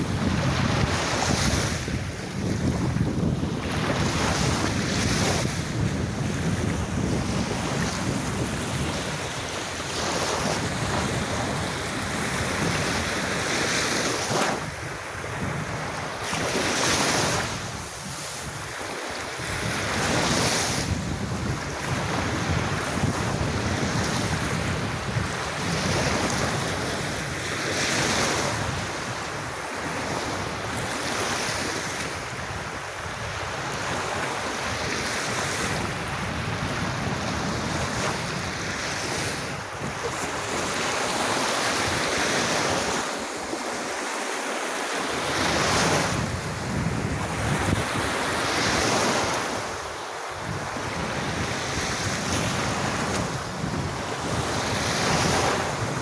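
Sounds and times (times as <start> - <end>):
wind rumbling on microphone: 0.0 - 44.0, 45.0 - 56.0
sea waves washing onto beach: 0.0 - 56.0.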